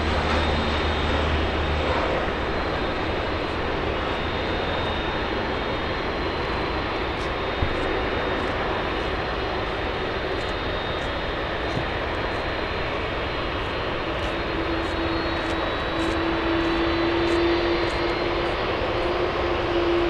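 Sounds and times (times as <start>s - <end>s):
humming tone: 0.0s - 20.0s
turboprop engine running: 0.0s - 20.0s.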